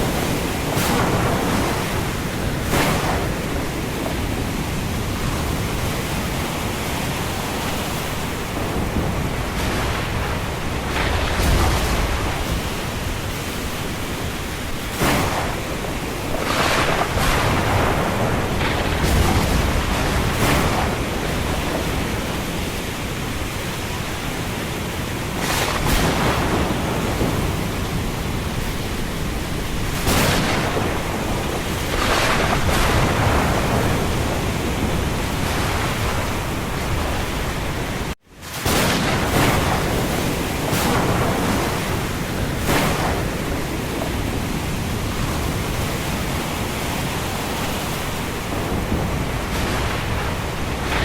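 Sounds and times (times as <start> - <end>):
low thunder rumbling: 0.0 - 51.0
rain: 0.0 - 51.0
wind: 0.0 - 51.0.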